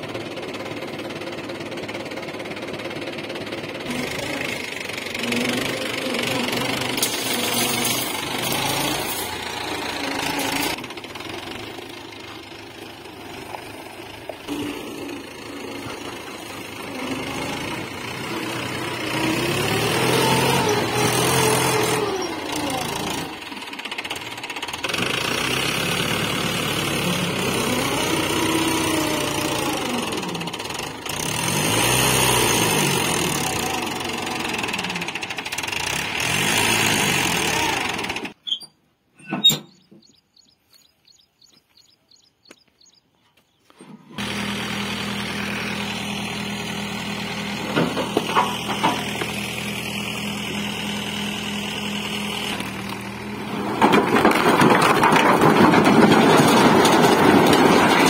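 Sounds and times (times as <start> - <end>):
tractor diesel engine revving: 0.0 - 38.6, 43.7 - 58.0.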